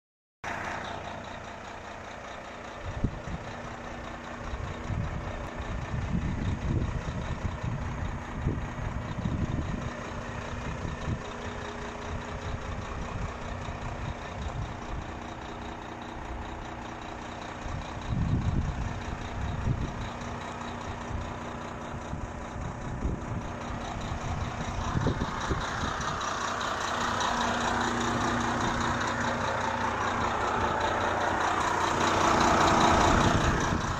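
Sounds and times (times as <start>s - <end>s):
diesel truck engine idling: 0.4s - 33.9s
low rumbles: 0.4s - 33.9s.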